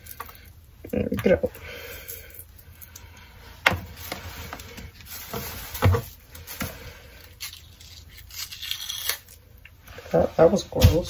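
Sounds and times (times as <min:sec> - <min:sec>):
hands handling onion layers: 0:00.0 - 0:11.0.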